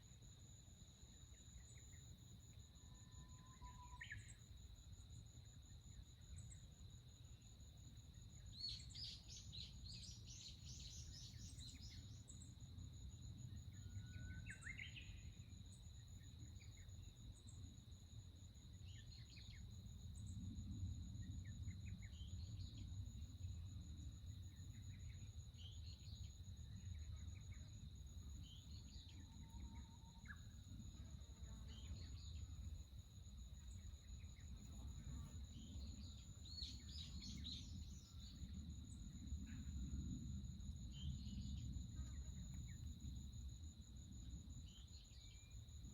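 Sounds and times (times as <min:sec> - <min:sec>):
high-pitched insect trills: 0:00.0 - 0:45.9.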